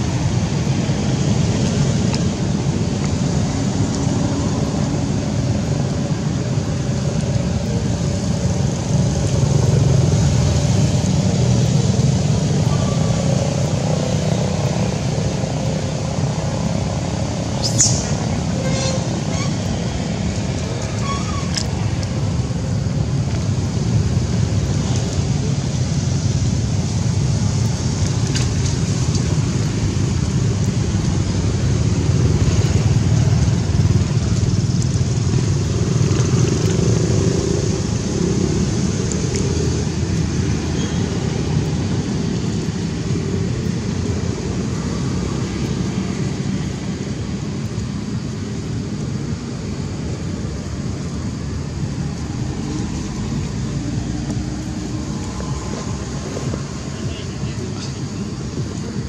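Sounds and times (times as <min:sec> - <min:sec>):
motorcycles and scooters passing: 0:00.0 - 0:59.0
road traffic rumble: 0:00.0 - 0:59.0.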